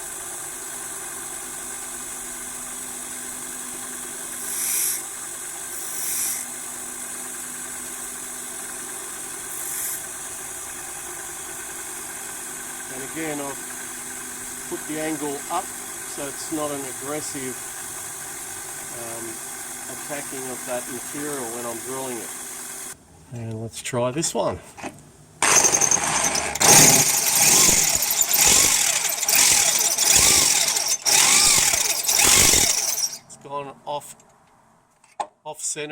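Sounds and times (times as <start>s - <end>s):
bench grinder motor running: 0.0s - 23.0s, 25.4s - 33.2s
drill bit grinding on wheel: 0.0s - 23.0s, 25.4s - 33.2s.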